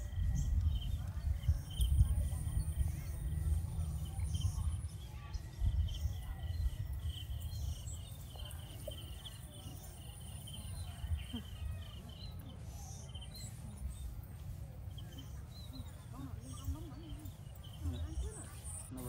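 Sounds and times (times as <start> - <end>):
low uneven rumble: 0.0 - 19.0.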